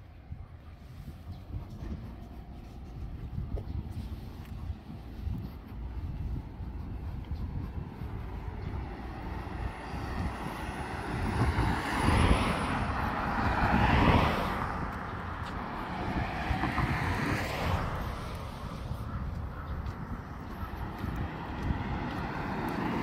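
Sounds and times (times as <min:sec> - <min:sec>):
outdoor traffic noise: 0:00.0 - 0:23.0
vehicle passing: 0:00.8 - 0:23.0.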